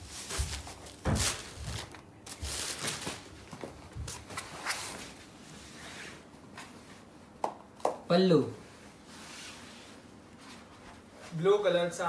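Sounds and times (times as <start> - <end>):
cloth rustling and swishing: 0.0 - 7.1, 8.7 - 11.4.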